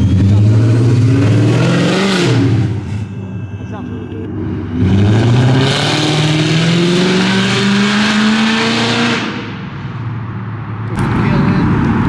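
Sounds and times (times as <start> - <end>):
car accelerating hard: 0.0 - 3.0, 4.3 - 9.8, 10.8 - 12.0.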